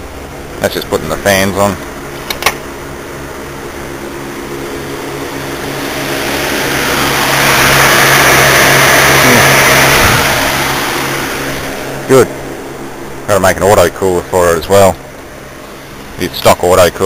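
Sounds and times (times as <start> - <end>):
car engine idling: 0.0 - 17.0
cooling fans rushing air: 0.0 - 17.0.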